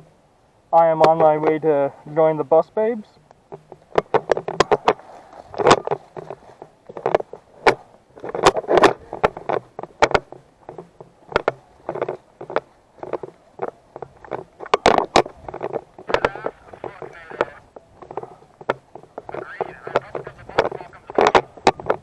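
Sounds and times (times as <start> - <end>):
camera rattling in mount: 3.4 - 22.0.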